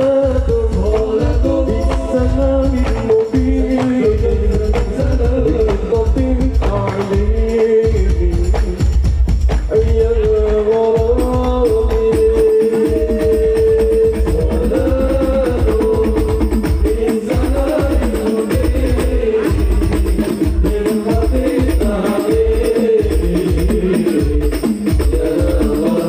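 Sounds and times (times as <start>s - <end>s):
hand drum percussion: 0.0s - 26.0s
men singing into microphones: 0.0s - 26.0s.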